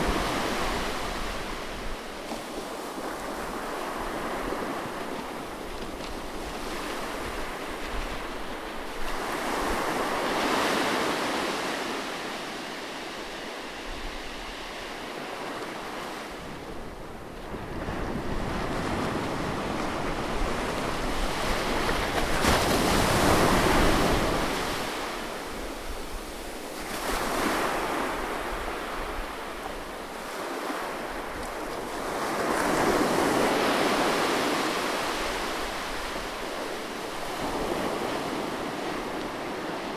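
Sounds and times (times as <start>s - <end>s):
waves breaking and washing: 0.0s - 39.9s.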